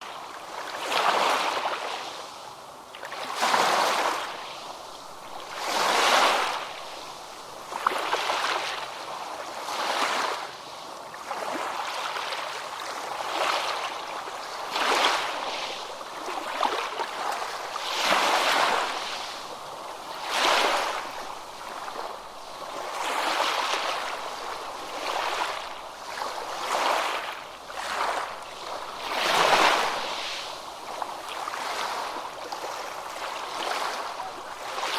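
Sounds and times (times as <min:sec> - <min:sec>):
ocean waves washing in: 0:03.2 - 0:34.9.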